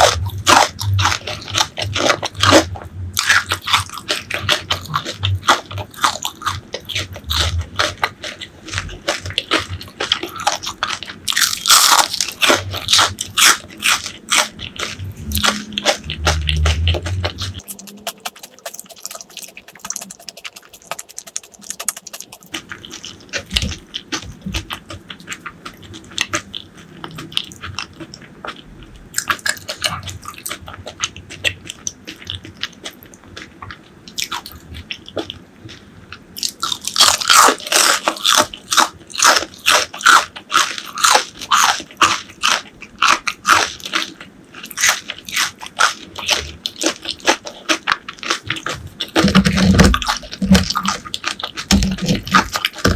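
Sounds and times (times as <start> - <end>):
chewing crunchy fried food: 0.0 - 52.9.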